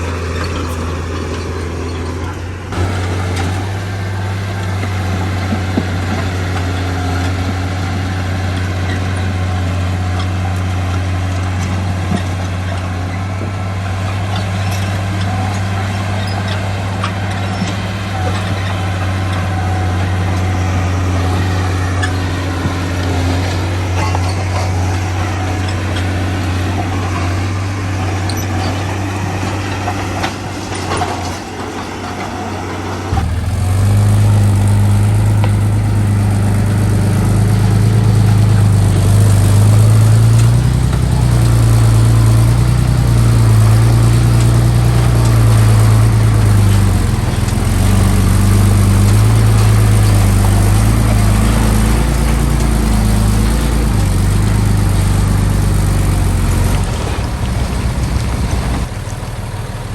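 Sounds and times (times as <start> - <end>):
heavy diesel engine drone: 0.0 - 59.9.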